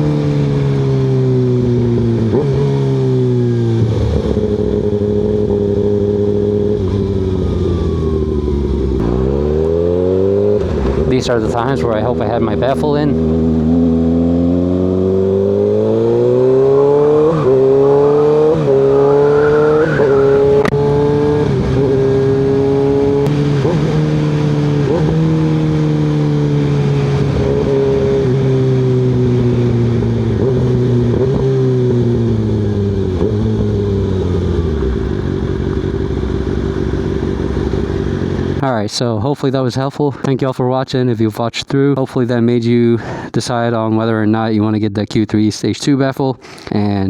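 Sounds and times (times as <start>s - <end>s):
motorcycle engine revving: 0.0s - 38.6s.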